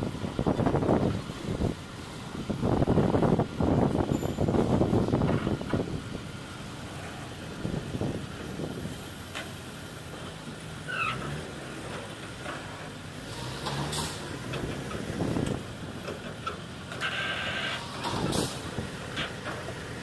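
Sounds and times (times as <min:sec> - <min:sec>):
diesel crane engines running: 0:00.0 - 0:20.0.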